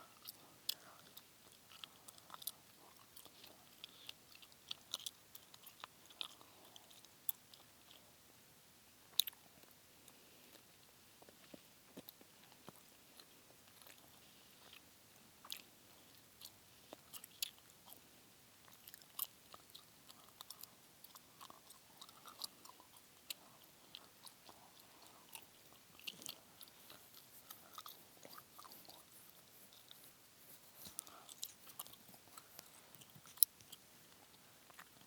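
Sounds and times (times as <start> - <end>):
gum chewing mouth sounds: 0.0 - 8.2, 9.1 - 9.8, 10.5 - 35.0.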